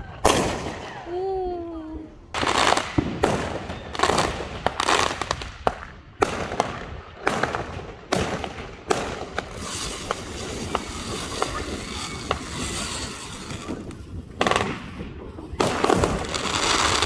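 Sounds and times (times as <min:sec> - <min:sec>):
fireworks bangs with crackle: 0:00.0 - 0:01.6, 0:02.3 - 0:17.0
sharp fireworks cracks: 0:00.0 - 0:17.0.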